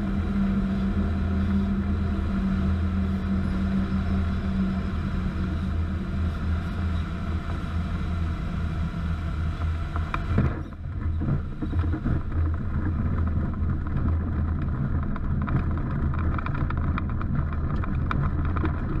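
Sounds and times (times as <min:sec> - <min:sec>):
aircraft rolling over grass: 0:00.0 - 0:19.0.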